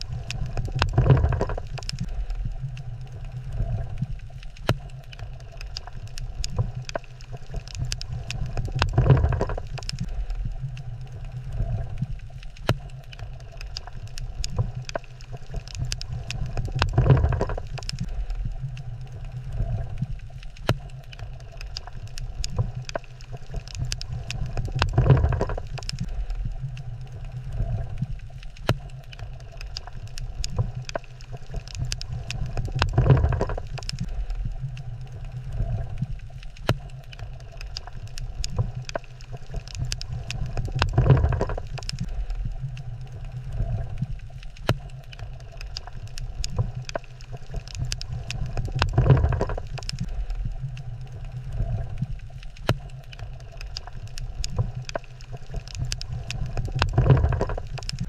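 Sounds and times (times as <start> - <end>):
low underwater rumble: 0.0 - 58.0
sharp clicks and crackles: 0.0 - 58.0.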